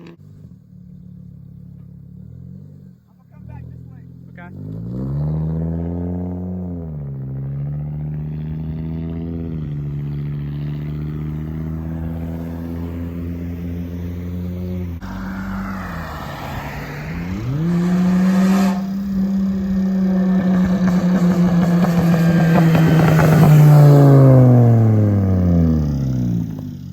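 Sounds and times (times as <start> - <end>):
car exhaust engine note: 0.0 - 26.9.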